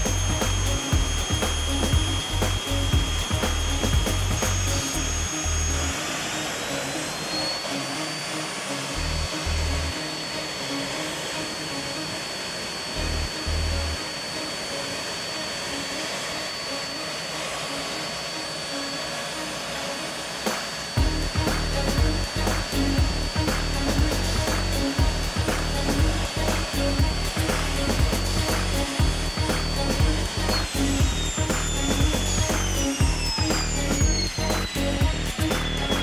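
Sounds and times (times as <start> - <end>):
jet turbine starting with whine: 0.0 - 36.0.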